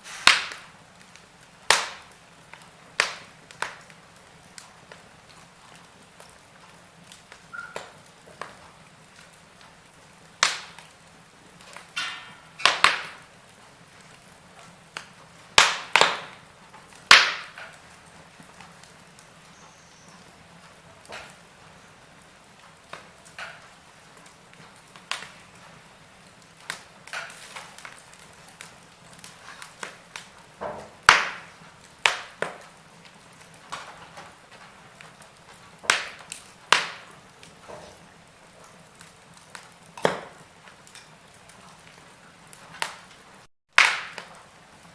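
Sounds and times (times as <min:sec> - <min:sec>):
faint steady hiss: 0:00.0 - 0:43.5
wood fire crackling and popping: 0:00.0 - 0:44.9.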